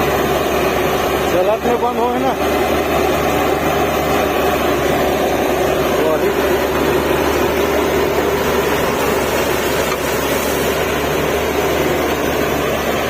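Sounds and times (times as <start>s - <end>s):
diesel machinery droning: 0.0s - 13.0s.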